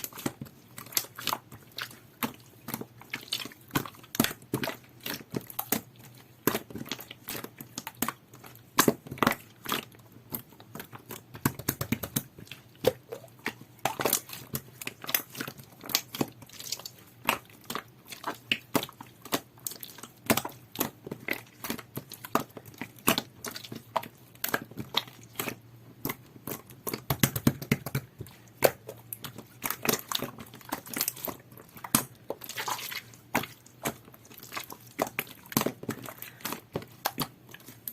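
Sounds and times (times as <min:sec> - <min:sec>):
slime squished by hand: 0:00.0 - 0:37.9.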